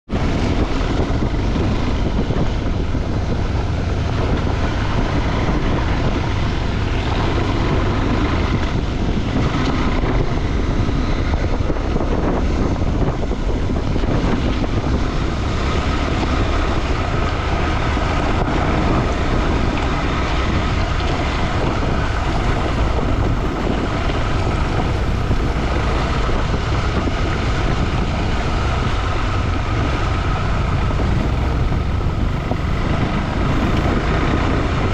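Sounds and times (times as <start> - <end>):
motorcycle engine running: 0.1 - 34.9
wind buffeting microphone: 0.1 - 34.9.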